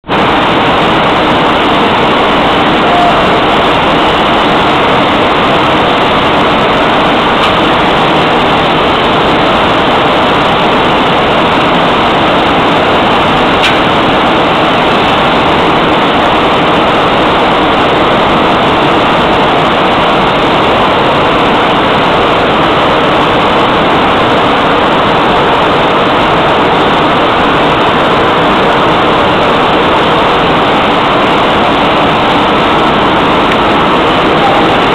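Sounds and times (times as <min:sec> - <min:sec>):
industrial machinery rush: 0:00.0 - 0:34.9.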